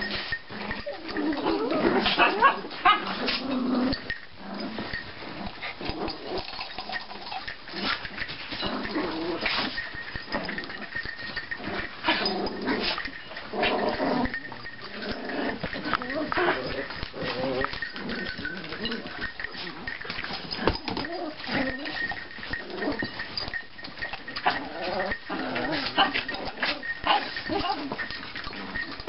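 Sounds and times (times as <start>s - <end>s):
small dogs growling and yipping: 0.0s - 29.0s.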